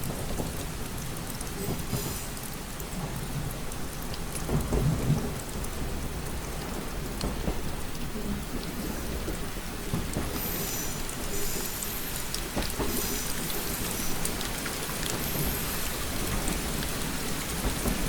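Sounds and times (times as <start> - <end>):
raindrops tapping: 0.0 - 18.0
steady rain: 0.0 - 18.0
thunder rumbling: 0.0 - 18.0.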